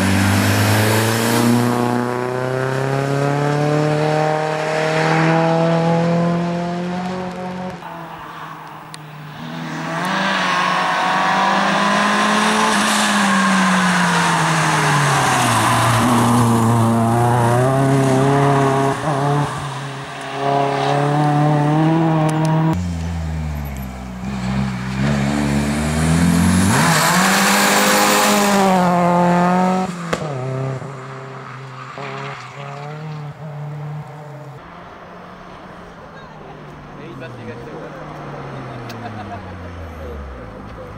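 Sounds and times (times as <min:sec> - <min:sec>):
rally car engine revving: 0:00.0 - 0:08.1, 0:08.9 - 0:34.6.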